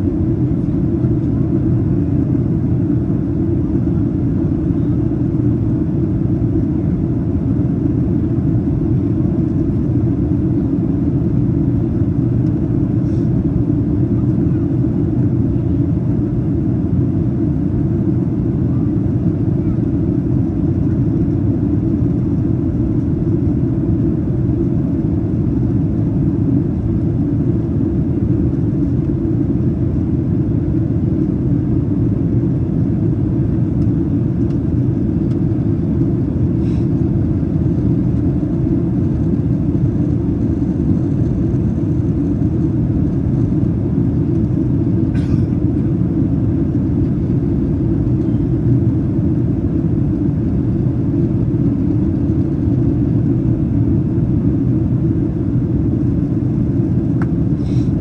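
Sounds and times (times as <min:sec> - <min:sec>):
airplane cabin engine rush: 0:00.0 - 0:58.0.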